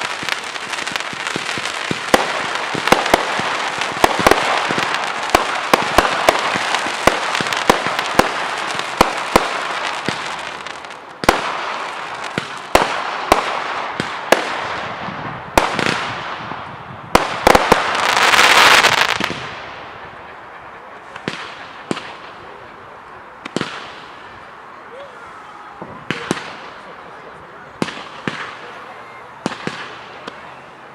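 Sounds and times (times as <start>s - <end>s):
fireworks bangs: 0.0s - 24.5s, 25.7s - 30.9s
fireworks crackling hiss: 0.0s - 30.9s.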